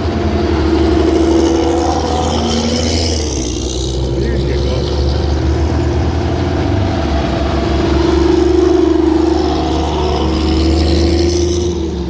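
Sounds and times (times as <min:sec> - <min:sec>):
engine droning hum: 0:00.0 - 0:12.0.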